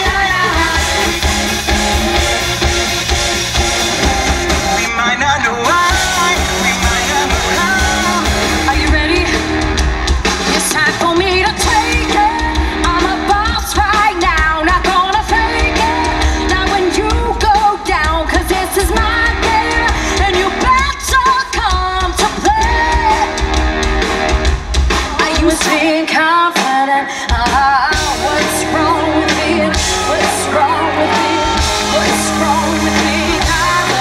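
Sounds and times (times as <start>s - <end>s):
woman singing: 0.0s - 2.3s, 5.7s - 9.8s, 10.4s - 23.5s, 25.0s - 34.0s
bass guitar: 0.0s - 25.6s, 27.4s - 34.0s
drums: 0.0s - 34.0s
electric guitars: 0.0s - 34.0s.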